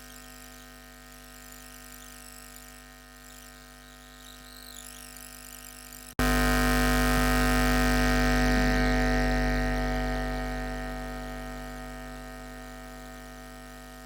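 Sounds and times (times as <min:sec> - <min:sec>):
electrical hum and buzz: 0:00.0 - 0:14.0.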